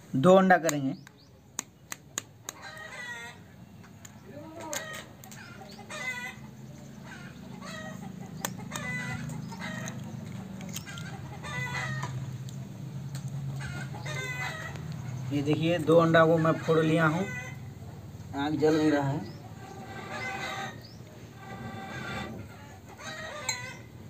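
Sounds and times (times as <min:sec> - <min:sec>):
chickens clucking: 0:02.4 - 0:24.0.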